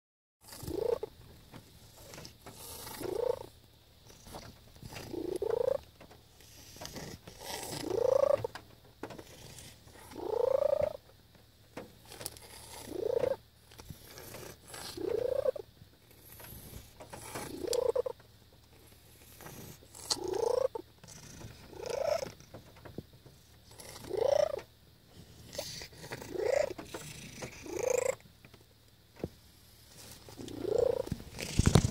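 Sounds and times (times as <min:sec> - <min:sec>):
cat purring loudly: 0:00.4 - 0:08.6, 0:09.2 - 0:11.0, 0:12.0 - 0:18.2, 0:18.8 - 0:22.7, 0:23.6 - 0:28.2, 0:29.9 - 0:31.9.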